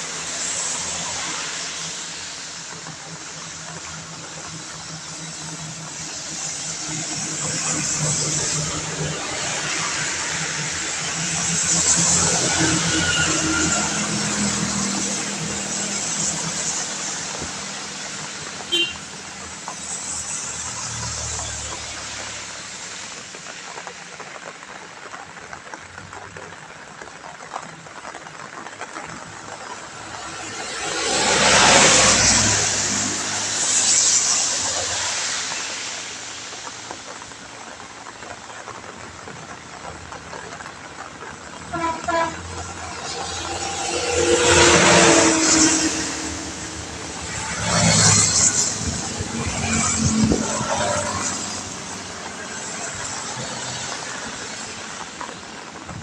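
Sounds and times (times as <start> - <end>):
rain on a wet road: 0.0 - 56.0
traffic swishing on wet asphalt: 0.0 - 56.0.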